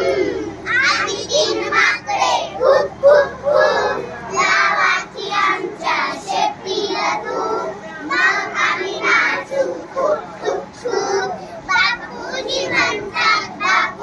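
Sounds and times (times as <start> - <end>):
young children singing: 0.0 - 14.0.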